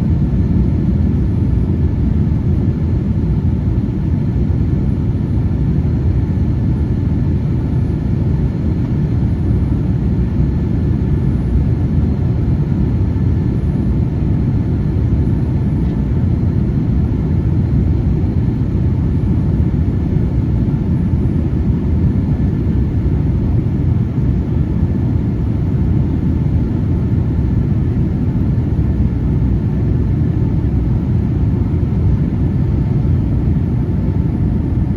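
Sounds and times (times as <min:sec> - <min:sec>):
faint steady whine: 0:00.0 - 0:34.9
jet engine rumble: 0:00.0 - 0:34.9.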